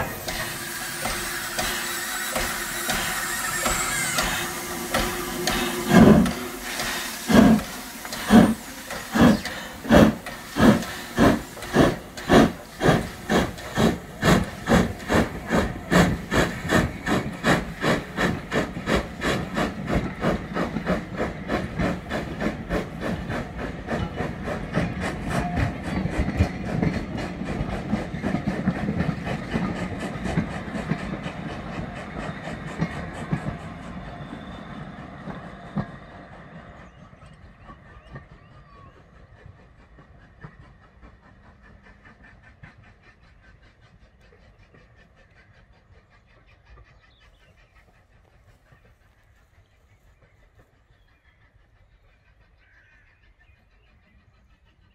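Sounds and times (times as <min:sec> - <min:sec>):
steam hissing: 0:00.0 - 0:37.1, 0:37.8 - 0:49.2
steam locomotive exhaust beats: 0:00.0 - 0:54.9.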